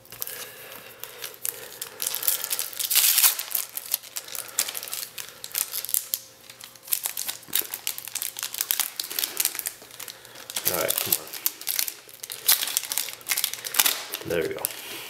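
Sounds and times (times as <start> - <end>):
foil pack crinkling: 0.0 - 15.0.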